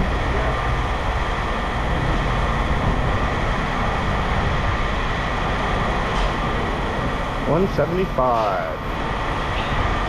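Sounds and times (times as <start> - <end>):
engine rumble with high whine: 0.0 - 10.0.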